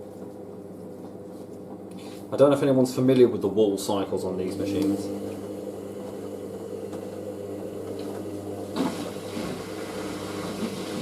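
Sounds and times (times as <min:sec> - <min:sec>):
drain pump humming: 0:00.0 - 0:11.0.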